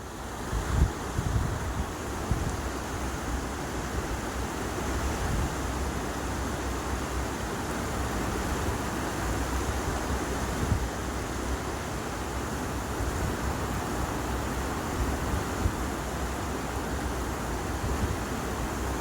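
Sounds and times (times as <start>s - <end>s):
river water rushing: 0.0s - 19.0s
wind rumble on microphone: 0.1s - 7.0s, 7.9s - 11.7s, 12.7s - 19.0s.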